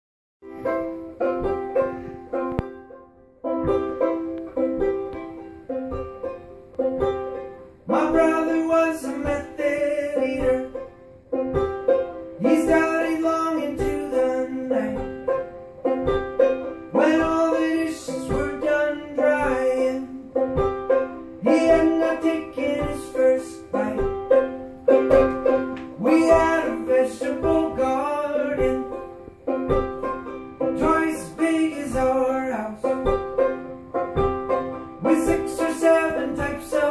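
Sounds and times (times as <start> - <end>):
banjo picking and strumming: 0.4 - 36.9.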